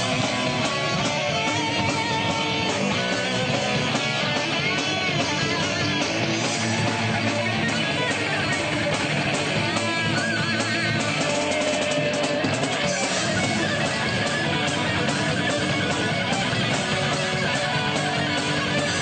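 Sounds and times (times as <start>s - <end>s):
electric guitar: 0.0s - 19.0s
live heavy metal band: 0.0s - 19.0s.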